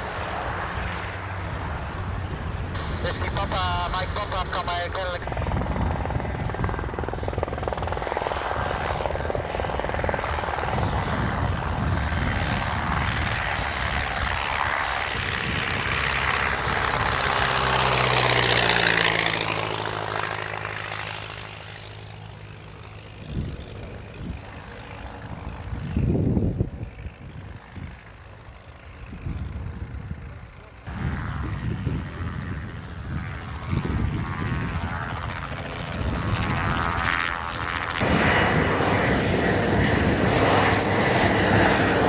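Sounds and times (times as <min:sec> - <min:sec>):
biplane engine passing low: 0:00.0 - 0:42.0
helicopter rotor and turbine: 0:00.0 - 0:42.0.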